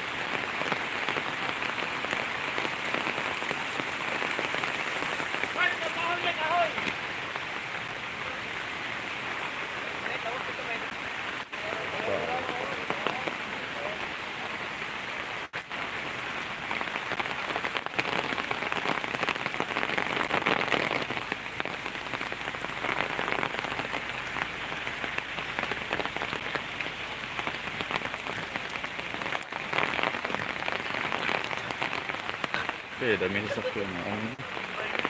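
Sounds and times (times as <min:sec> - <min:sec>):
rain falling on wet pavement: 0:00.0 - 0:35.0.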